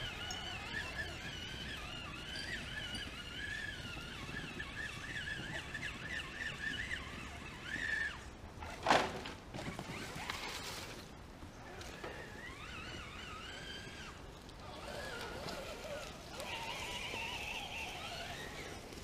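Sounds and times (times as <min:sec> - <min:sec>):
electric motor whining: 0:00.0 - 0:08.3, 0:09.6 - 0:19.0.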